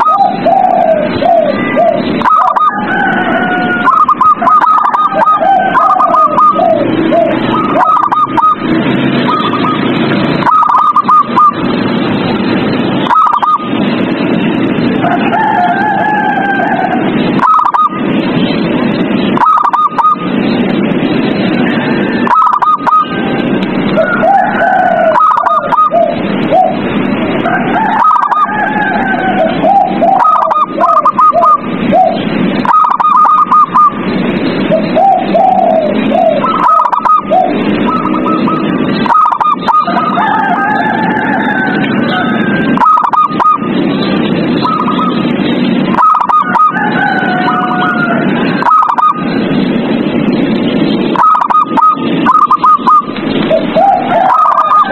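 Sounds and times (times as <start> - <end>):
doves cooing: 0.0 - 12.0, 12.8 - 13.8, 14.7 - 18.1, 19.2 - 20.6, 21.4 - 49.9, 51.0 - 54.9
steady loud hiss: 0.0 - 54.9.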